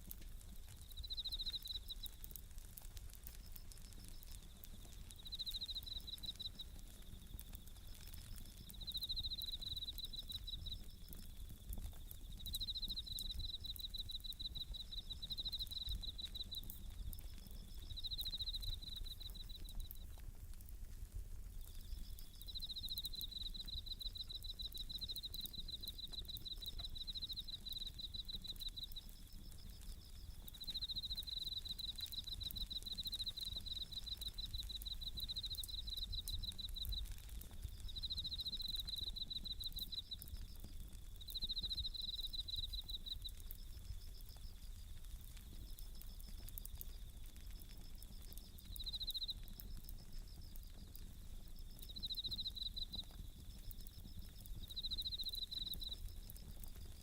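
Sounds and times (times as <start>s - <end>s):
campfire crackling and popping: 0.0s - 57.0s
crickets chirping in pulsed trills: 0.0s - 57.0s.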